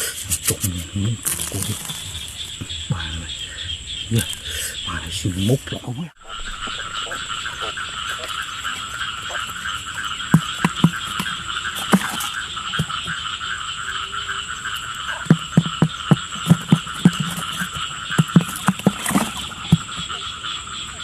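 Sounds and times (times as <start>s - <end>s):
low croaking calls: 0.0s - 21.0s.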